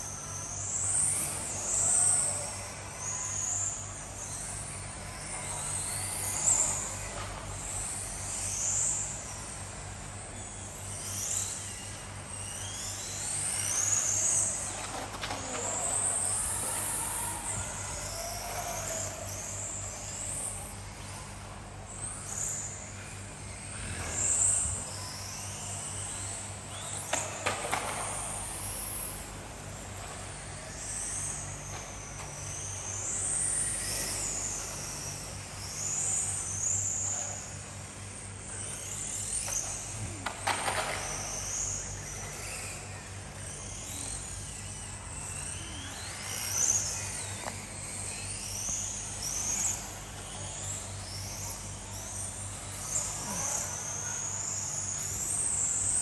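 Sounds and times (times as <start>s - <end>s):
rc car motors whining: 0.0s - 56.0s
steady low hum: 0.0s - 56.0s.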